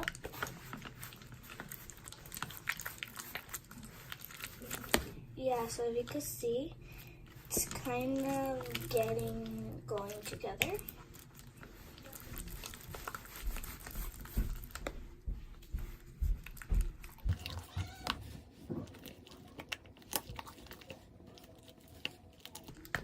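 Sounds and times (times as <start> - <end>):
slime squelching in a bowl: 0.0 - 23.0.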